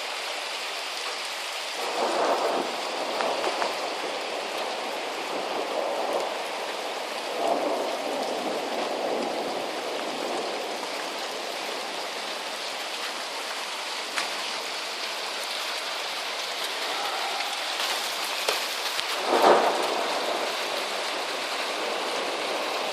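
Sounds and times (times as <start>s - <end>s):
heavy rain falling: 0.0s - 22.9s.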